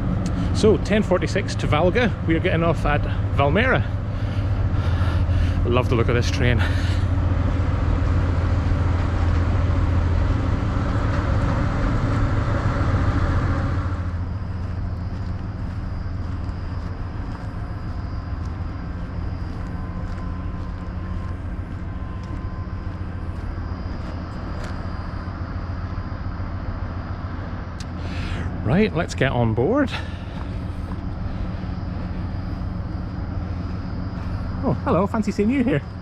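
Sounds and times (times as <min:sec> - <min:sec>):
diesel train engine idling: 0:00.0 - 0:36.0.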